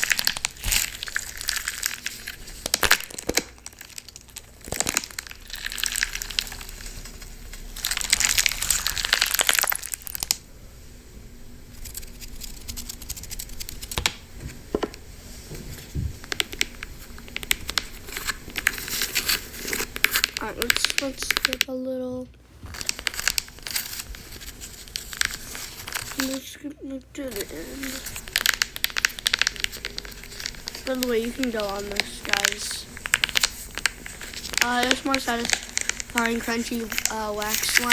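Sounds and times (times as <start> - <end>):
crunchy slime crackling: 0.0 - 10.5, 16.2 - 37.9.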